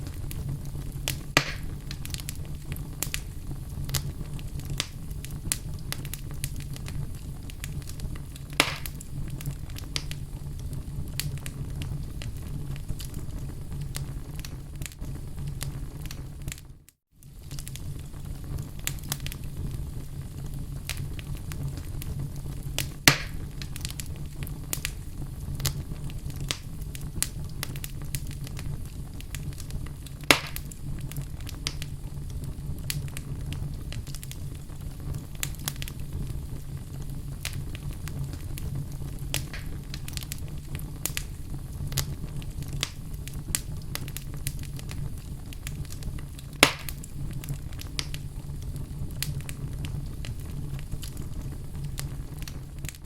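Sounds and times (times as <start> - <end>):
fire crackles: 0.0 - 53.0
fire low rumble: 0.0 - 53.0
loud fire pops: 0.0 - 53.0.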